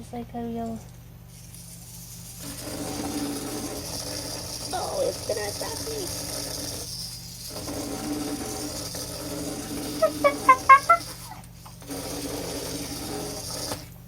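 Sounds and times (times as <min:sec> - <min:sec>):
toy motor buzzing rattle: 0:00.6 - 0:14.0.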